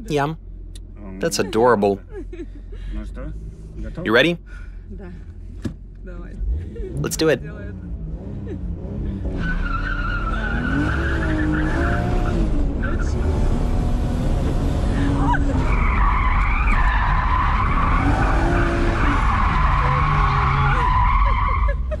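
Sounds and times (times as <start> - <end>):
car engine revving: 3.2 - 21.5.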